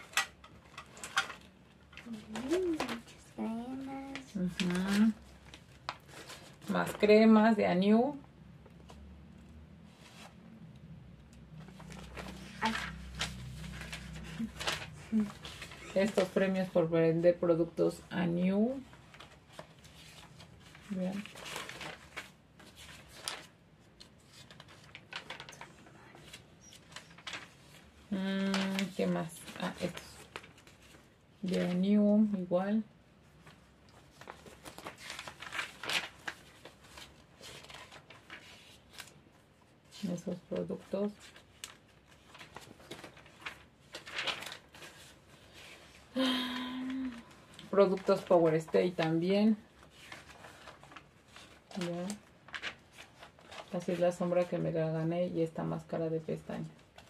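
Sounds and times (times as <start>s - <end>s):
paper pages rustling: 0.0s - 7.2s, 11.3s - 17.0s, 18.8s - 32.0s, 33.2s - 54.7s, 56.8s - 57.0s.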